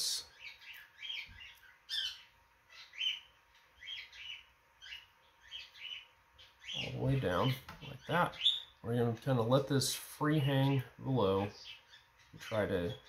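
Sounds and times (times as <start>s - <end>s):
small bird chirping: 0.0s - 9.2s, 10.4s - 13.0s.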